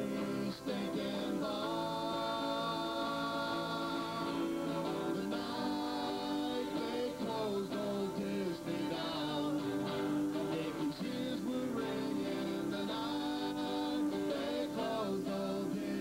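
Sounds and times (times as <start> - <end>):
strummed acoustic guitars: 0.0 - 16.0
voices singing long notes: 0.0 - 16.0.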